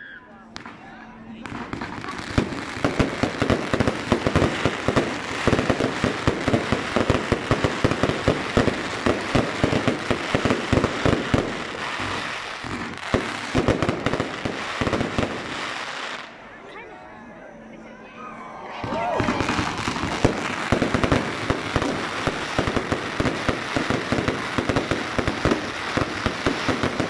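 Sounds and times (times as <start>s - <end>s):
firework crackling: 0.6s - 16.4s, 18.8s - 27.0s
firework barrage bangs: 1.4s - 16.2s, 18.8s - 27.0s.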